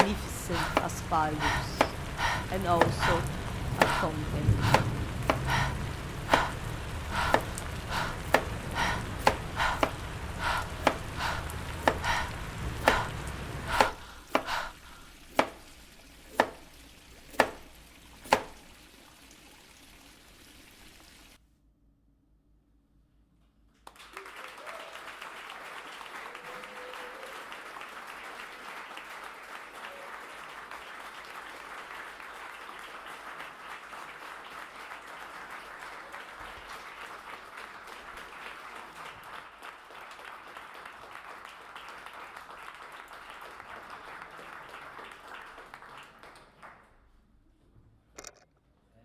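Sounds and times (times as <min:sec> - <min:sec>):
audience applauding: 0:00.0 - 0:16.6, 0:23.8 - 0:47.0.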